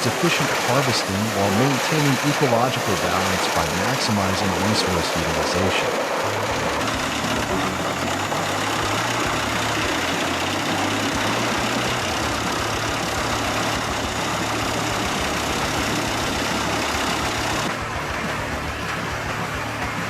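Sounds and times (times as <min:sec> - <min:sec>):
wood chipper running: 0:00.0 - 0:20.0.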